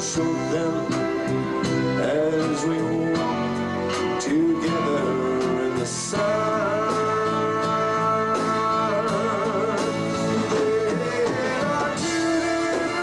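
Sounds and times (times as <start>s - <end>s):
instrumental accompaniment: 0.0s - 13.0s
man singing a slow ballad: 0.0s - 13.0s.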